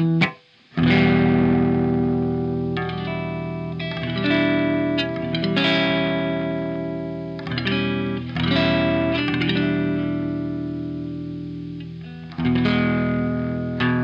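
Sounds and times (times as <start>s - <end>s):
fuzz electric guitar chords: 0.0s - 14.0s.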